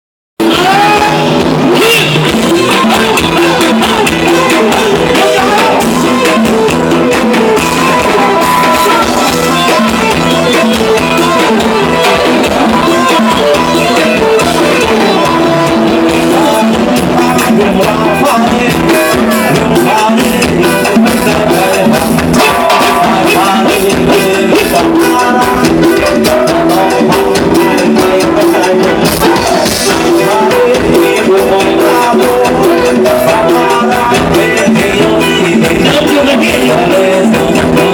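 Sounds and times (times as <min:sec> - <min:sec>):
band playing dance music: 0:00.4 - 0:37.9
drums and percussion beat: 0:00.4 - 0:37.9
person singing: 0:00.4 - 0:37.9.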